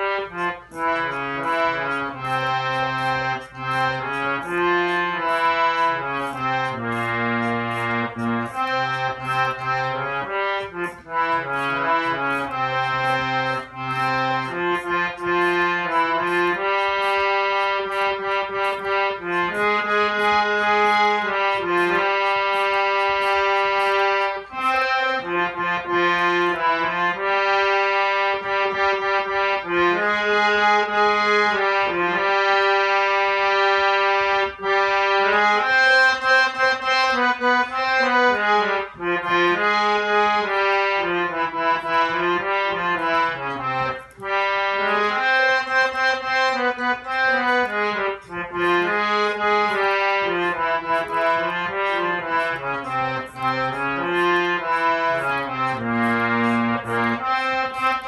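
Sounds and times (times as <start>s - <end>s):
harmonium melody: 0.0s - 58.0s.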